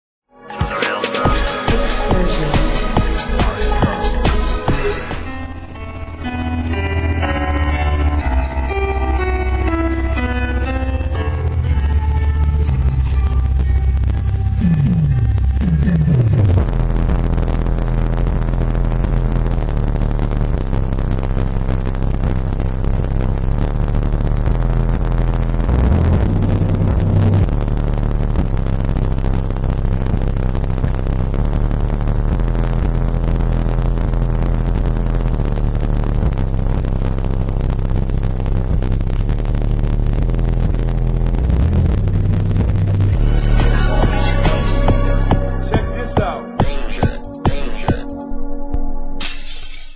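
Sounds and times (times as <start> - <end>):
loud deep bass from subwoofer: 0.6 - 49.2.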